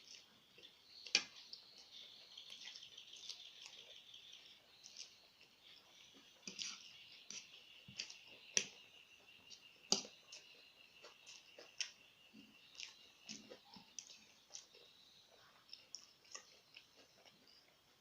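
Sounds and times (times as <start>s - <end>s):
chewing and mouth noises: 0.0s - 18.0s
faint steady high tone: 0.0s - 18.0s.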